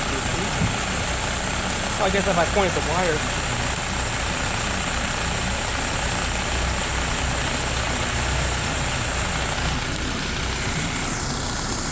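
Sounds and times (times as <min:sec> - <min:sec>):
car engine idling unevenly: 0:00.0 - 0:11.9.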